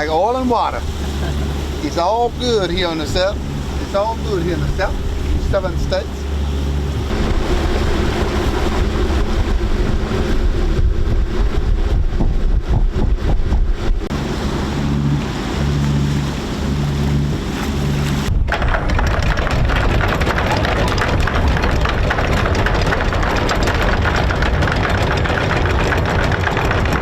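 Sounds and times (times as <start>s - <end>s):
low steady drone: 0.0s - 27.0s
water rushing past hulls: 0.0s - 27.0s
wind buffeting microphone: 0.0s - 27.0s.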